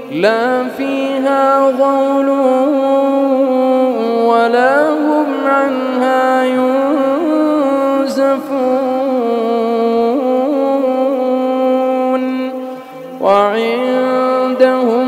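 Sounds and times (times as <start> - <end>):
man reciting in melodic chant: 0.0 - 15.0.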